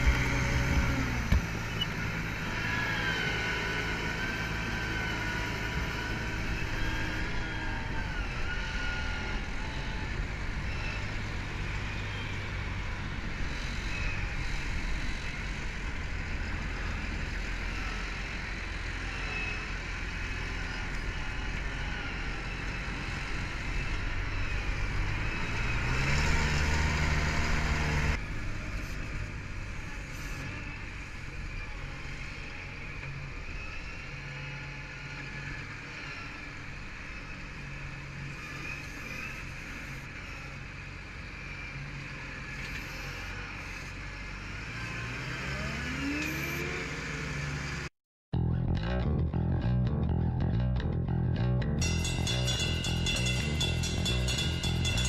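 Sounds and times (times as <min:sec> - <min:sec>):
firewood splitter motor and hydraulics: 0:00.0 - 0:47.9.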